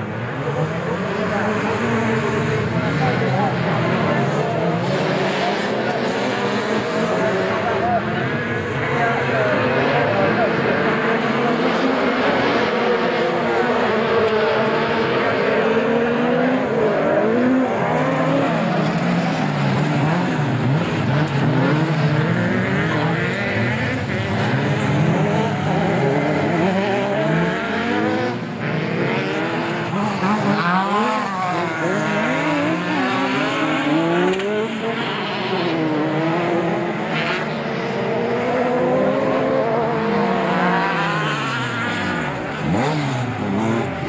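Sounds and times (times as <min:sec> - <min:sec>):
race car engines revving: 0:00.0 - 0:44.0.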